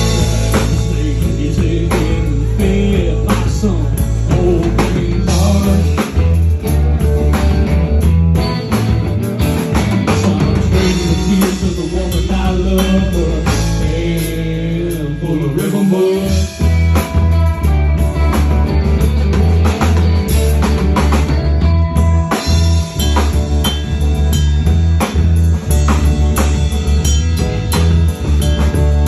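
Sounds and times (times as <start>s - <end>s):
electric bass line: 0.0s - 29.0s
live rock band playing: 0.0s - 29.0s.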